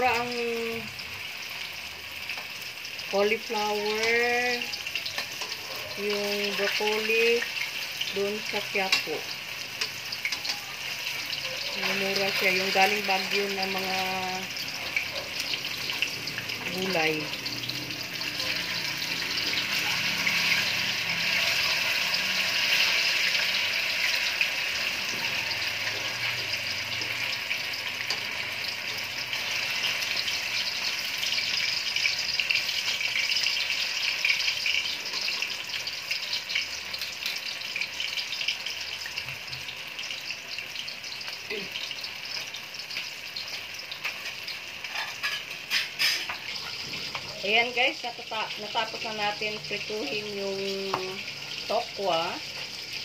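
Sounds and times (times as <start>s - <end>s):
tofu frying in oil: 0.0s - 53.0s.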